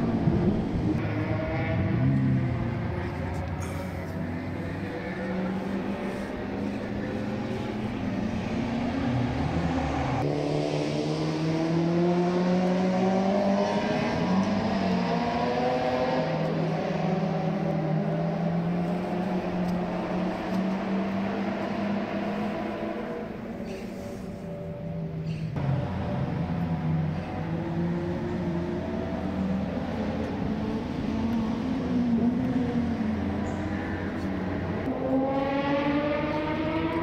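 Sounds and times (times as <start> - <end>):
racing car engines passing: 0.0 - 37.0.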